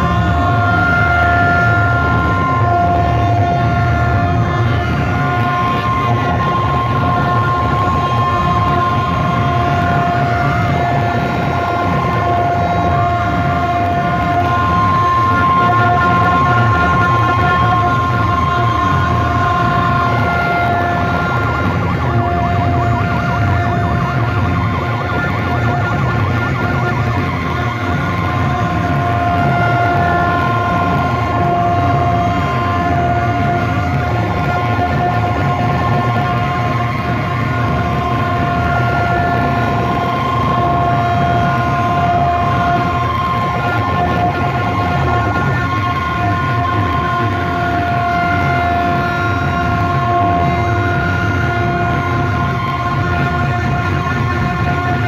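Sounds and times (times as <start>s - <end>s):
electronic horn tones over bass: 0.0s - 55.0s
warbling siren effect: 0.0s - 55.0s.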